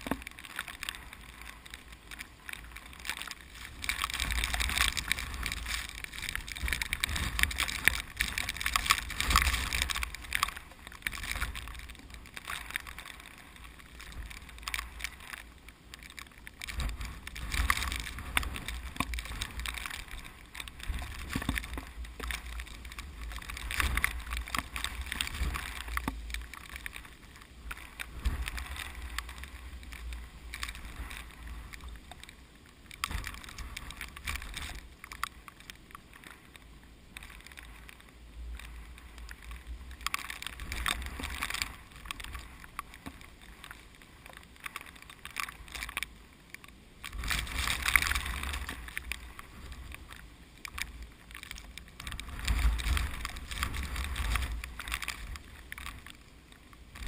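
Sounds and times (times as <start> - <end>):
rice plants rustling: 0.0 - 57.0.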